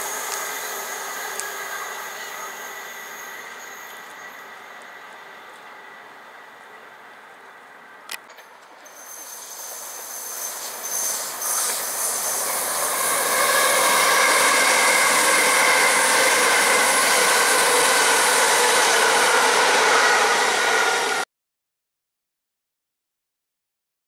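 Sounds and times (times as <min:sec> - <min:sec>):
electric train passing: 0:00.0 - 0:21.3.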